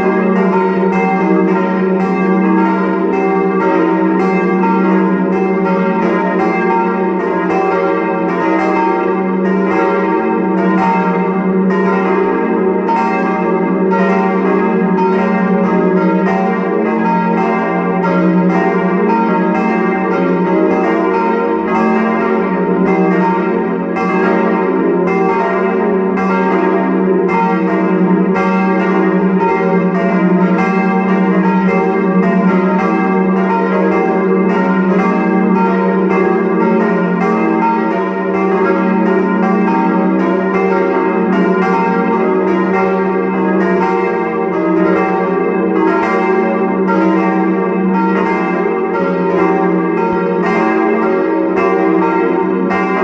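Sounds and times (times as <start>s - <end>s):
church bells ringing: 0.0s - 53.0s.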